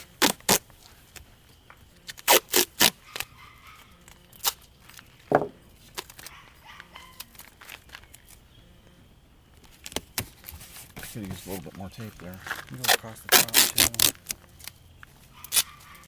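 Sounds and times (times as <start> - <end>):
tape scraping and ripping: 0.0 - 1.3, 2.0 - 8.4, 9.6 - 16.0.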